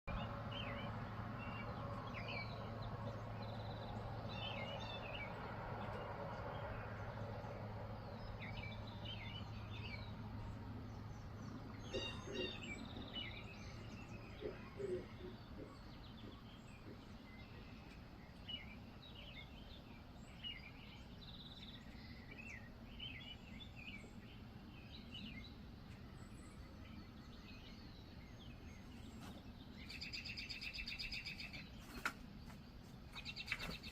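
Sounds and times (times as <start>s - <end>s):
steady low hum: 0.1s - 31.1s
small birds chirping: 0.1s - 33.9s.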